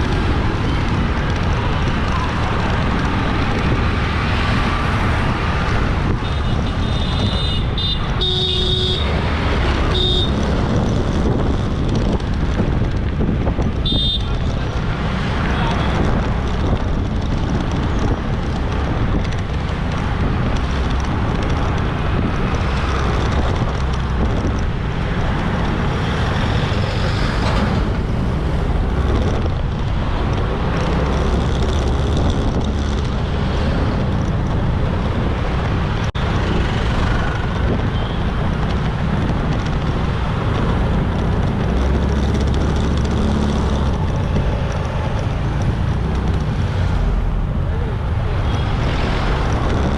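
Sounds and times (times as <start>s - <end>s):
vehicles passing: 0.0s - 49.9s
wind and road noise: 0.0s - 49.9s.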